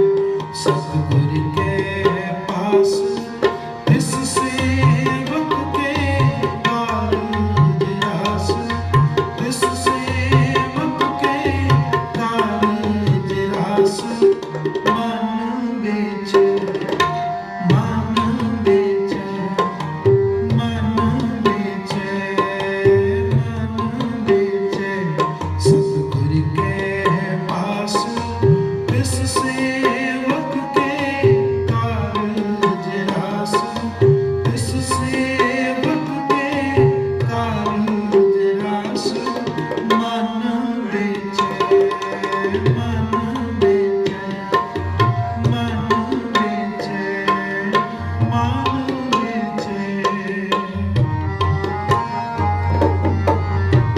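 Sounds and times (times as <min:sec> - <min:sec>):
harmonium held notes: 0:00.0 - 0:53.9
tabla drumming: 0:00.0 - 0:53.9.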